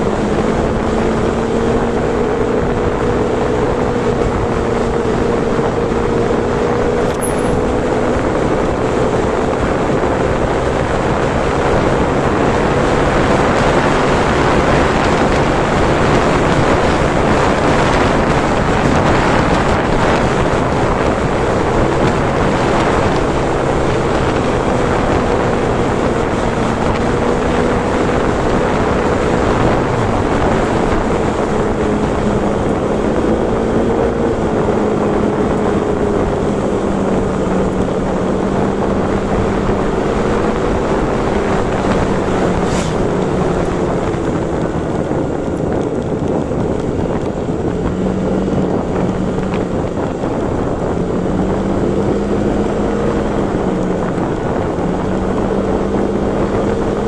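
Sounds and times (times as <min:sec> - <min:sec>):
vehicle engine running: 0:00.0 - 0:57.0
wind noise on microphone: 0:00.0 - 0:57.0.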